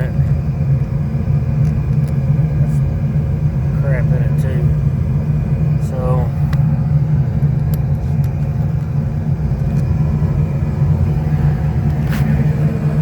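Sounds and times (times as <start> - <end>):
rooftop unit humming: 0.0 - 13.0.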